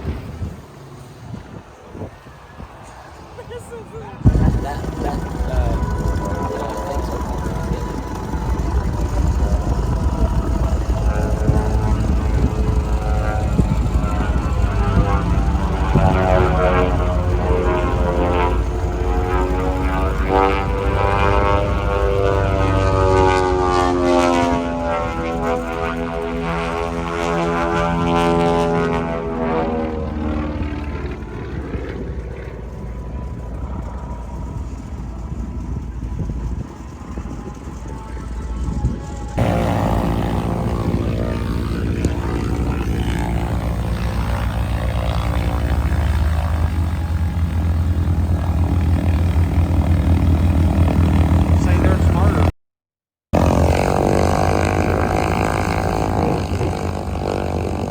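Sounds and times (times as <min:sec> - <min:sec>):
propeller airplane flying past: 0:00.0 - 0:52.5, 0:53.4 - 0:57.9.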